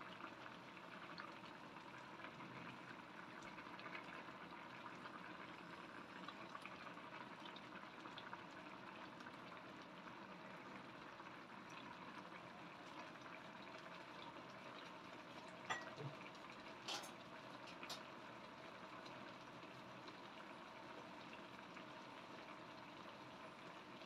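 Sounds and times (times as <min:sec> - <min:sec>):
broth bubbling in a wok: 0:00.0 - 0:24.0.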